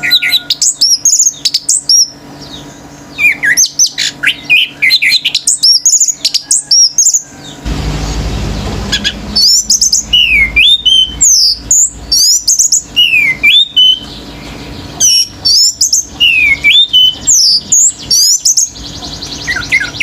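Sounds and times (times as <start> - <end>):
faint rapid bird trill: 0.0 - 20.0
thrush singing whistled notes: 0.0 - 20.0.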